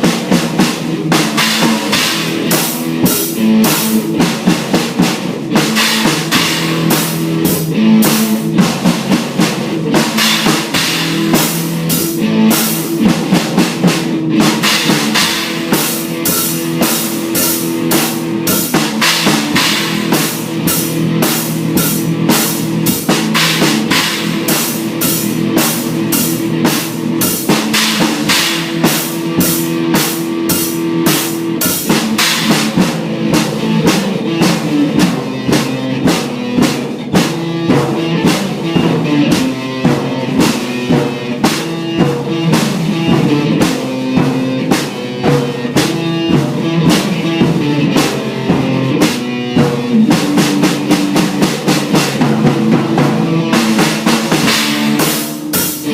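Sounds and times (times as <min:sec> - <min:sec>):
drum kit with cymbals: 0:00.0 - 0:55.9
electric guitar riff: 0:00.0 - 0:55.9.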